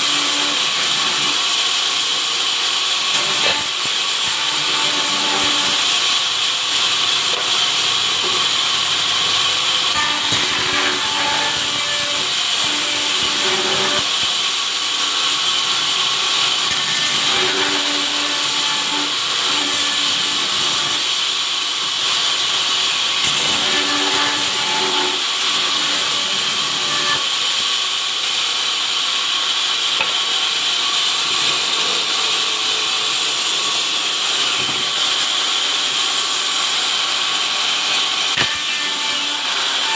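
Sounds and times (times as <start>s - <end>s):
sawmill machine running: 0.0s - 39.9s.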